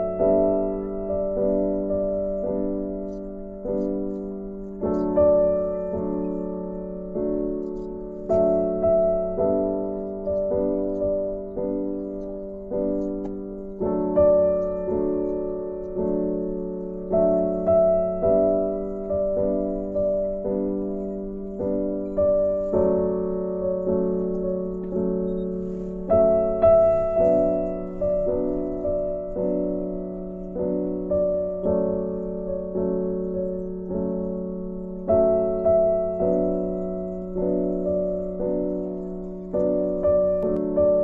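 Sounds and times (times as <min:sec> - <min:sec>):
slow piano piece: 0:00.0 - 0:41.0.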